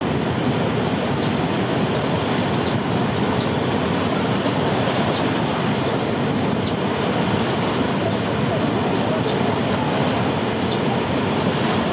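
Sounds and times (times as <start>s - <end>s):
waterfall roaring: 0.0s - 11.9s.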